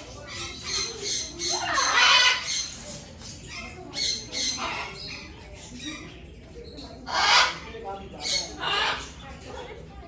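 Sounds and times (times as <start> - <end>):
parrots squawking: 0.0 - 6.1, 7.0 - 9.4.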